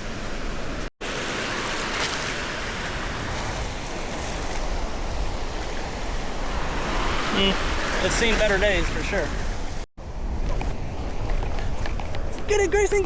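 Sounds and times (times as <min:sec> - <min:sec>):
surf washing on beach: 0:00.0 - 0:11.9
wind rumbling on microphone: 0:02.3 - 0:13.0.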